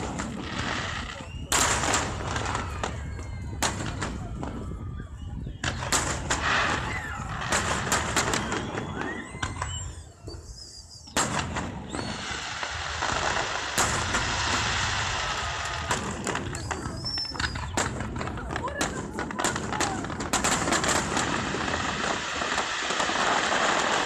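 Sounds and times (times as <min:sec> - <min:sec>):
crowd noise: 0:00.0 - 0:24.0
fireworks bursting with sharp bangs: 0:00.0 - 0:24.0.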